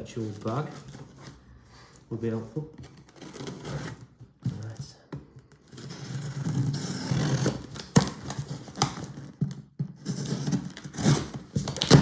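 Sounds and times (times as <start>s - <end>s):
packaging rustling and scraping: 0.0s - 12.0s.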